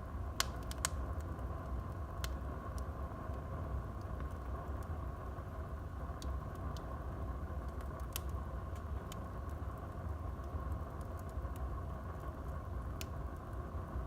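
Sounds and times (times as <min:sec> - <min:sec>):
fire crackles and pops: 0:00.0 - 0:14.0
fire flames rushing: 0:00.0 - 0:14.0.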